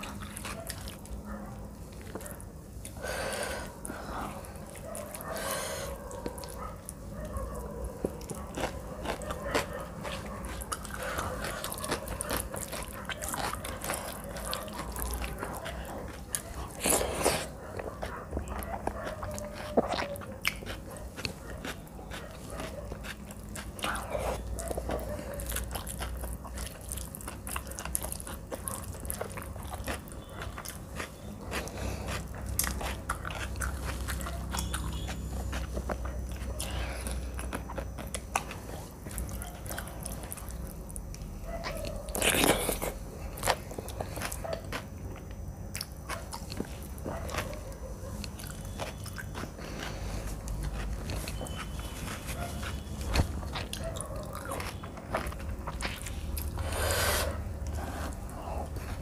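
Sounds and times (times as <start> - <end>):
wet chewing and lip smacks: 3.8 - 59.0.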